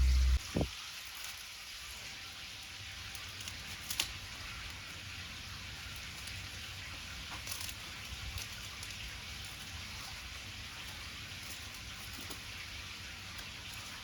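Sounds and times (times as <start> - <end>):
wood fire crackling: 0.0 - 0.7, 2.8 - 14.0.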